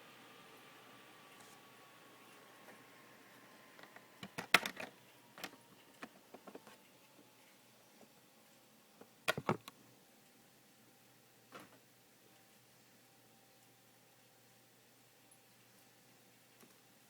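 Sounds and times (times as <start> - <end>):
laptop cooling fan whine: 0.0 - 15.2.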